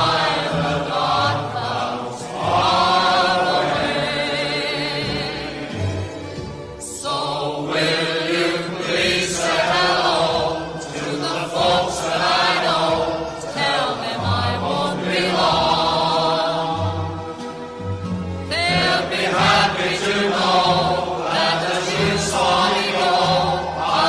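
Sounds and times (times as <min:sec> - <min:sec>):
sung vocals with strong vibrato: 0:00.0 - 0:17.8, 0:18.4 - 0:24.0.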